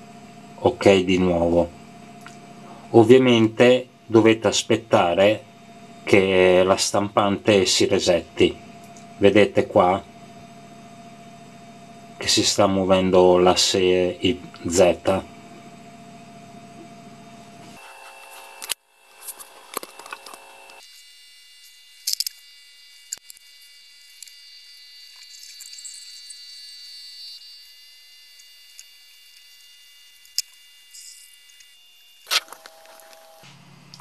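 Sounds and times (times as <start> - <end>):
stepper motor whine: 0.0 - 34.0.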